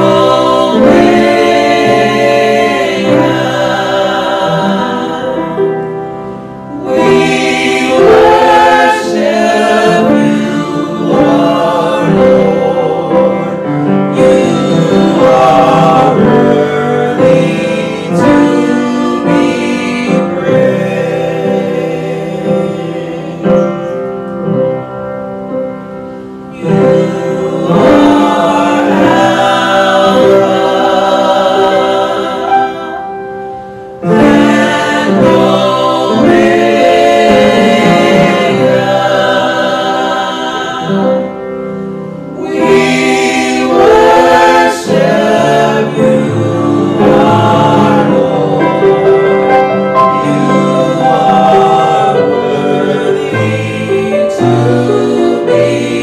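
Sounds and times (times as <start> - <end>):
women singing gospel: 0.0 - 24.0, 26.5 - 33.1, 34.0 - 41.7, 42.3 - 56.0.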